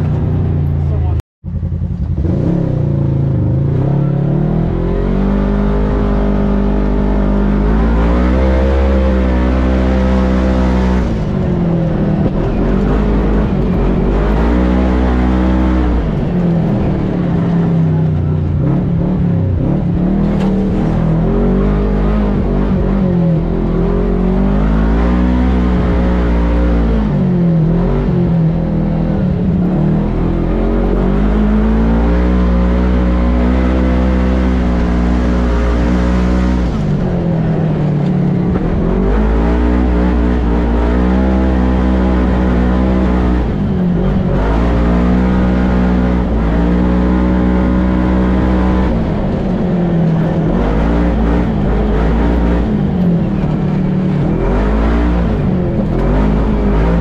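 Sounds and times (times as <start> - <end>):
vehicle engine accelerating: 0.0 - 57.0.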